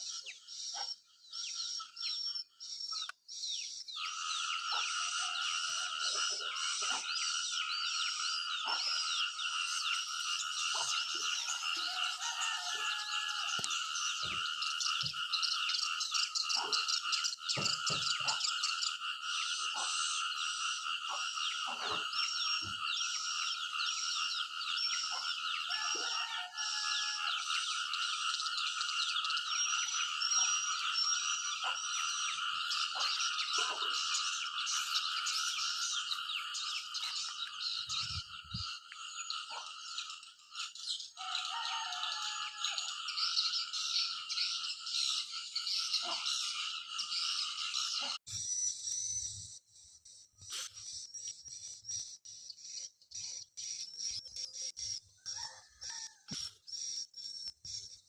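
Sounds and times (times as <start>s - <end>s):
frogs trilling: 0.0s - 49.6s.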